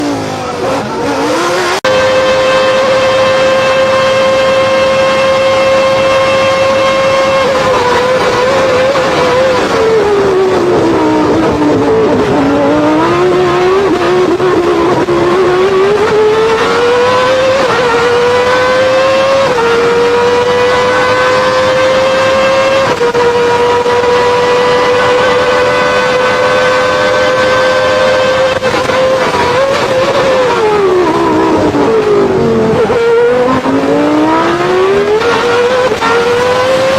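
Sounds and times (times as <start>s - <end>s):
racing car engine at high revs: 0.0s - 36.9s.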